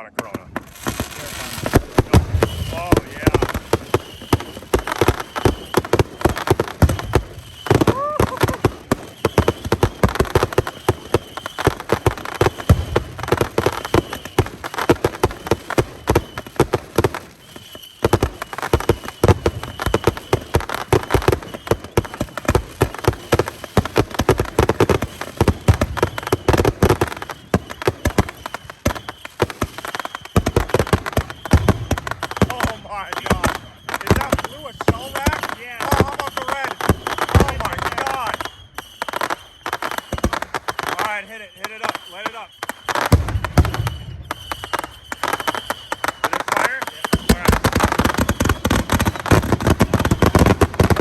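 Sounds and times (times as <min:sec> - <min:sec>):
fireworks popping and banging: 0:00.0 - 0:51.0
high firework whistle: 0:00.0 - 0:51.0.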